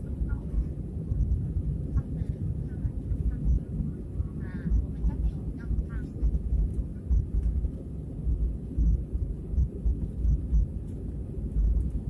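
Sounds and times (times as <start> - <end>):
aeroplane rumble: 0.0 - 12.0.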